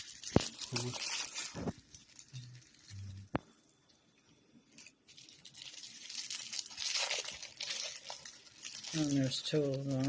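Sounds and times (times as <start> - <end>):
packaging tearing and crinkling: 0.0 - 3.4, 4.7 - 10.0.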